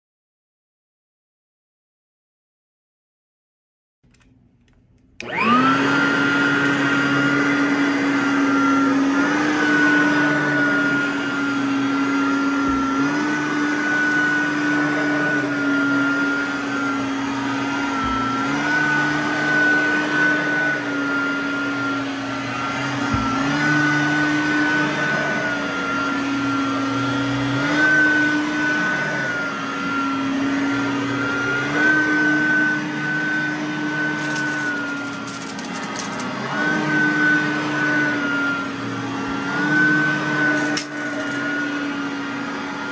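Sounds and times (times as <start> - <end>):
vacuum cleaner whining: 5.2 - 42.9.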